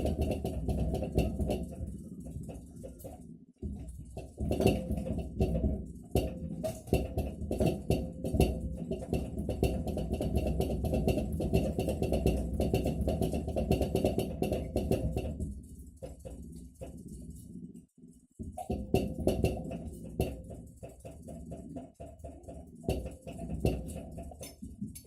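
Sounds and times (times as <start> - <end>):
refrigerator knocking and rattling: 0.0 - 17.3, 18.4 - 25.0.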